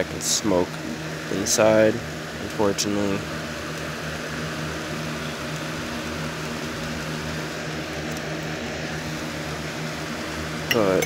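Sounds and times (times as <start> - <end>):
box fan humming: 0.0 - 11.0.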